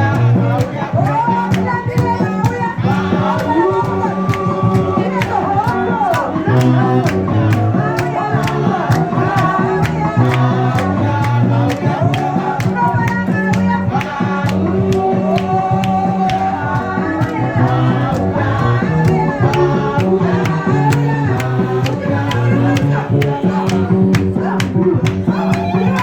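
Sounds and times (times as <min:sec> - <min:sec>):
band with bass: 0:00.0 - 0:26.0
steady drum beat: 0:00.0 - 0:26.0
voices singing gospel: 0:00.0 - 0:26.0.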